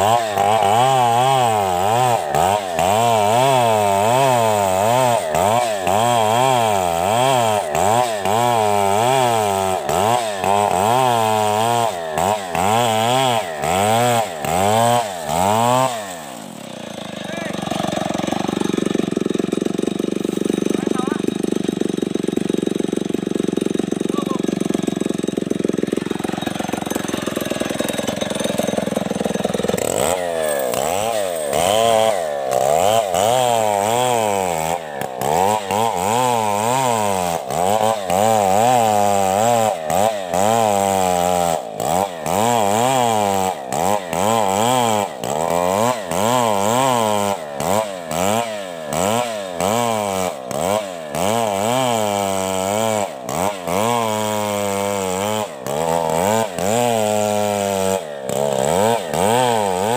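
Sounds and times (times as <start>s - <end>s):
chainsaw revving while sawing wood: 0.0s - 59.9s.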